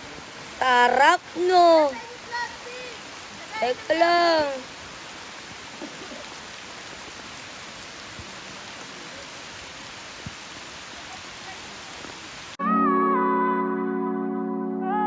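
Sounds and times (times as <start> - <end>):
water rushing hiss: 0.0 - 12.6.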